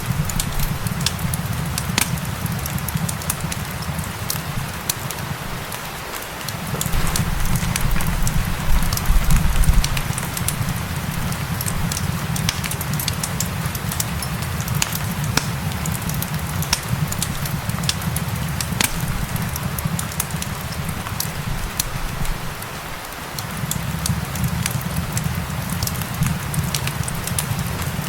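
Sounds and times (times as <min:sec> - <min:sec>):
rain hiss: 0:00.0 - 0:28.0
wood fire crackling: 0:00.0 - 0:28.0.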